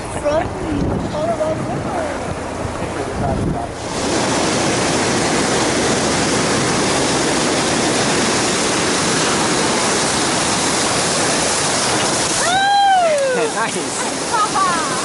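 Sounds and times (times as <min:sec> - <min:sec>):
whitewater roaring: 0:00.0 - 0:15.0.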